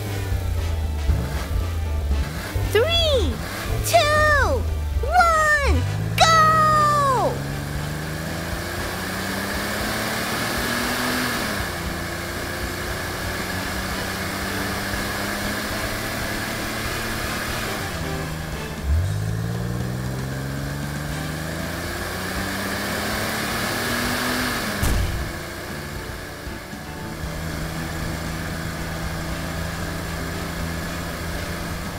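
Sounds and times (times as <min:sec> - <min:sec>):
car engine revving: 0:00.0 - 0:02.7, 0:03.4 - 0:03.9, 0:05.8 - 0:06.2, 0:07.3 - 0:31.9.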